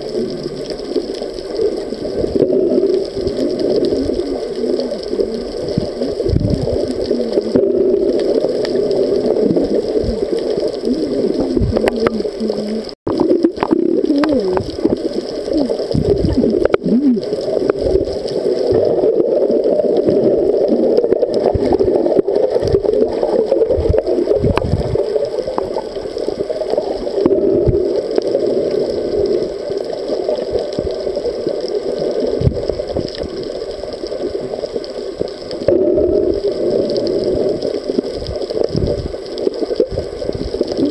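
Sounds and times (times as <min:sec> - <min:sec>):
gurgling and bubbling: 0:00.0 - 0:40.9
muffled underwater rush: 0:00.0 - 0:40.9.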